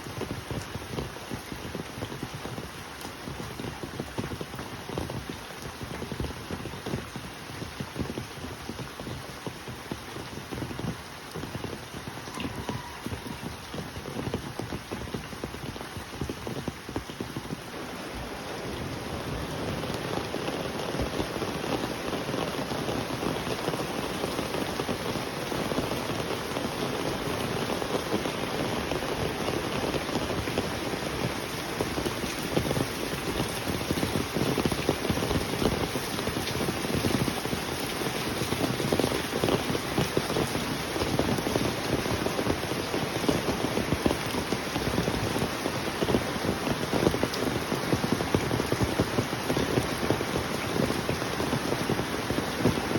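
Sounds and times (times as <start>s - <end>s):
rain falling: 0.0s - 52.9s.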